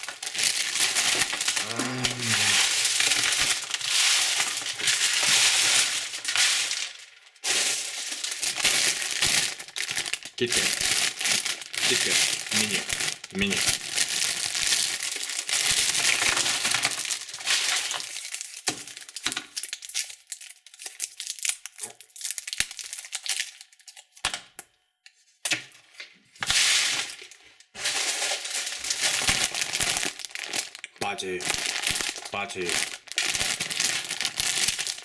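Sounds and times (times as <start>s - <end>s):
candy wrappers crinkling: 0.0s - 24.6s, 26.4s - 35.0s.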